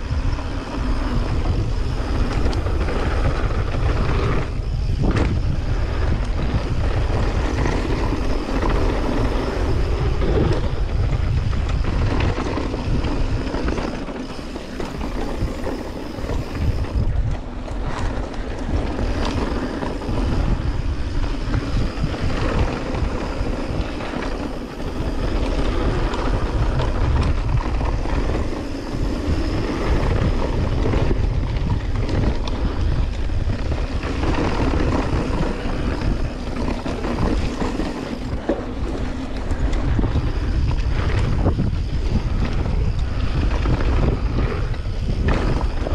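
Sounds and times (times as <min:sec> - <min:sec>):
bike tyres and frame rattling: 0:00.0 - 0:45.9
wind buffeting microphone: 0:00.0 - 0:45.9.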